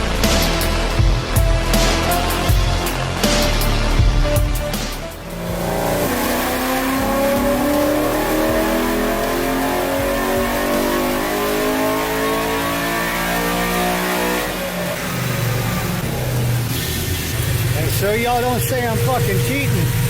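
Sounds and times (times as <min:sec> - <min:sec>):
engine revving at full throttle: 0:00.0 - 0:20.0.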